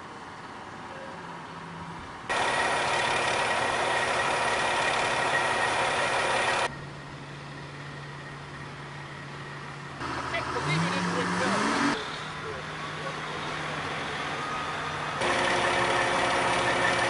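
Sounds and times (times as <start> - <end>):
truck crane engine running loudly: 2.3 - 17.0.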